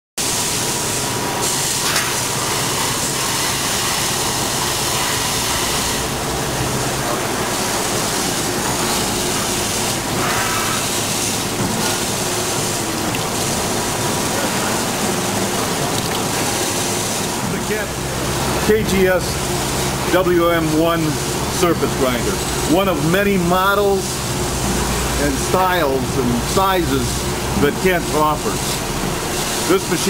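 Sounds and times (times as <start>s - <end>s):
grinding wheel and coolant hiss: 0.2s - 30.0s.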